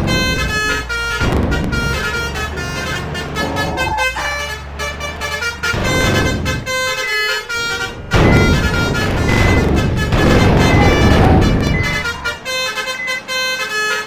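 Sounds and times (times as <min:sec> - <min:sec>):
engine rumble: 0:00.0 - 0:14.0
musical vehicle horns playing tunes: 0:00.0 - 0:14.0.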